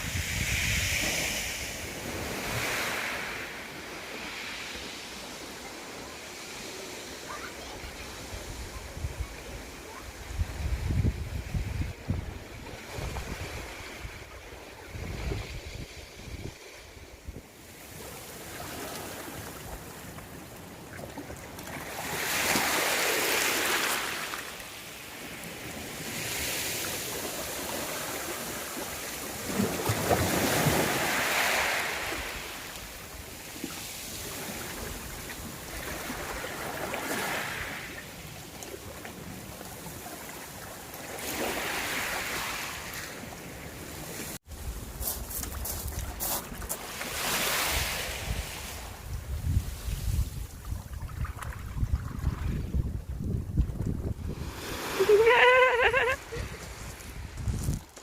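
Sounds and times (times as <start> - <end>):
sea waves breaking on beach: 0.0 - 44.8, 45.6 - 52.8, 54.1 - 57.4.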